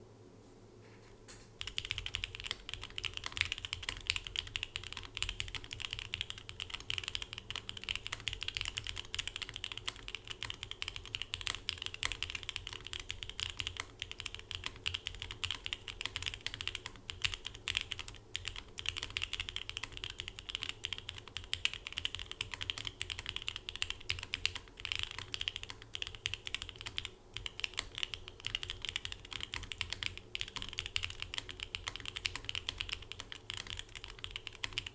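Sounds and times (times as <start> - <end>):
fast mechanical keyboard typing: 1.6 - 34.9.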